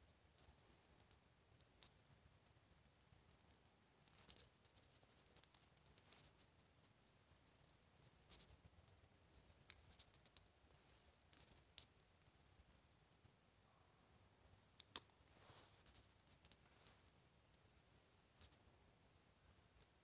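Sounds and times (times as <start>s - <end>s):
faint clicks and scratching: 0.0s - 13.4s, 14.2s - 20.0s.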